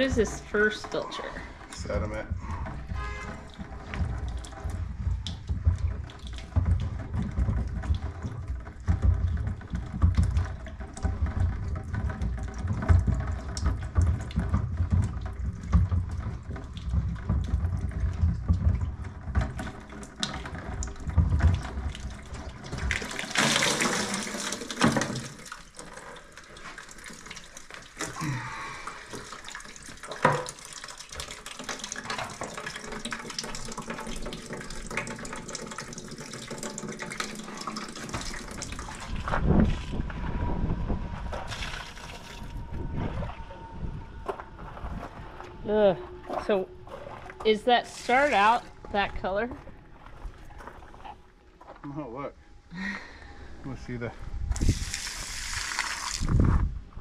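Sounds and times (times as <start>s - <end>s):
water pouring into bucket: 0.0s - 44.0s, 44.6s - 51.1s, 53.7s - 56.6s
water sloshing and running: 0.0s - 52.2s, 53.6s - 57.0s.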